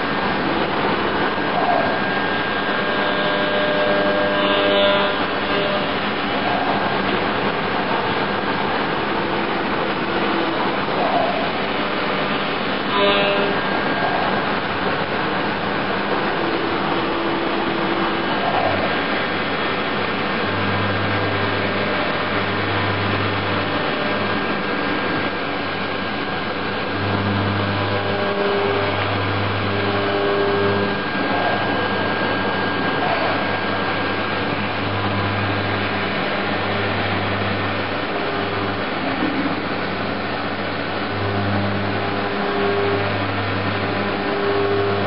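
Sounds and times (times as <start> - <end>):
low drone switching on and off: 0.0 - 45.0
milling machine running: 0.0 - 45.0.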